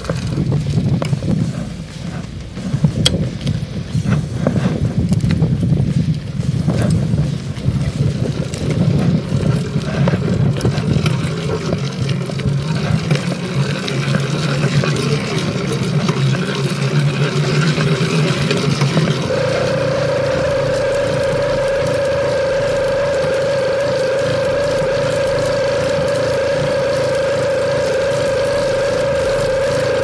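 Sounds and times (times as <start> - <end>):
two-stroke engine buzzing: 0.0 - 30.0.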